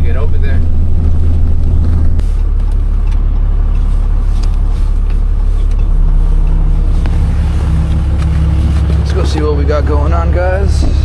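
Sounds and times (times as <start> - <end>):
engine and road rumble: 0.0 - 11.0
steady low hum: 0.0 - 11.0.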